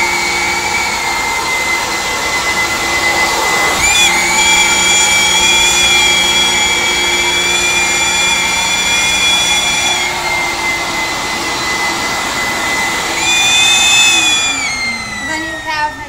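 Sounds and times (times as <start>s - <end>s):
carpet extractor motor whining: 0.0s - 16.0s.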